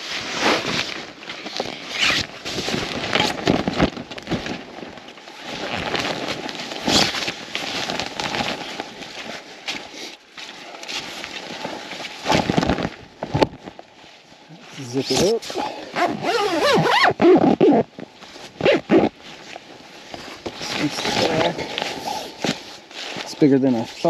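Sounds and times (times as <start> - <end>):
fabric rustling and crackling: 0.0 - 24.0.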